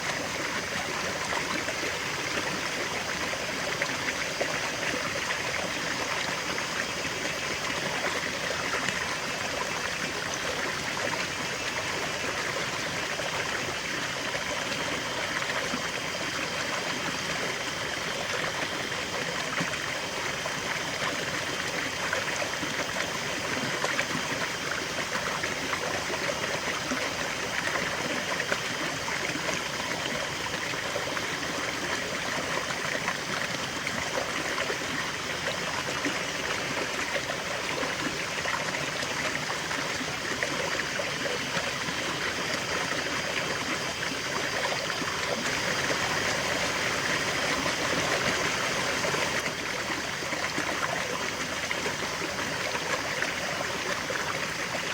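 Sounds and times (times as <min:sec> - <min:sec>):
river water flowing over stones: 0:00.0 - 0:54.9.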